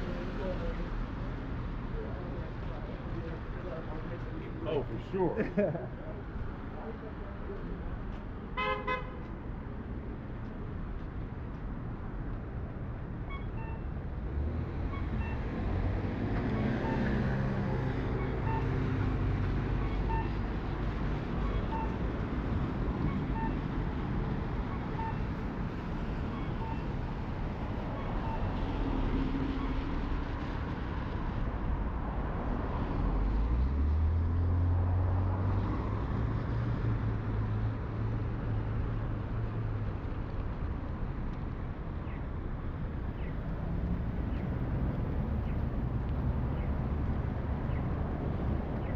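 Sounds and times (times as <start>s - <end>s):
vehicles passing: 0.0s - 48.9s.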